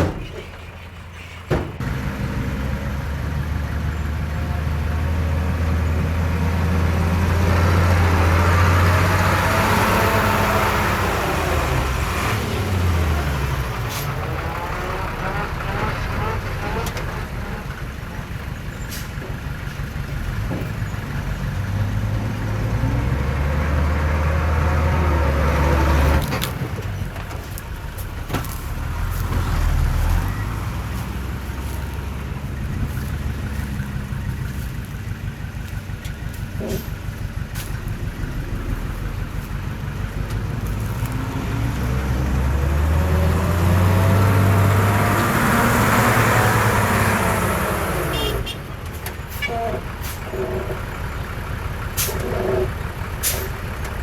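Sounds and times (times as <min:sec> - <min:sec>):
diesel machinery engine rumble: 0:00.0 - 0:54.0.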